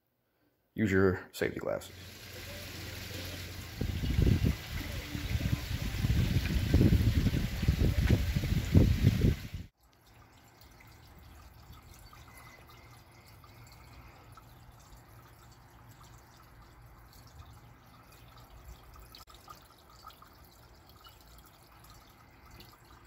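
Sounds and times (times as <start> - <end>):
water dripping and trickling: 1.9 - 23.0.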